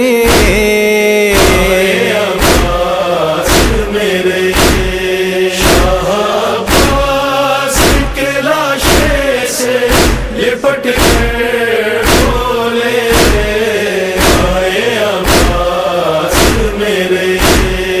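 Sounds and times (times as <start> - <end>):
devotional chanting: 0.0 - 18.0
heavy beat: 0.1 - 0.8, 1.4 - 10.4, 11.0 - 18.0.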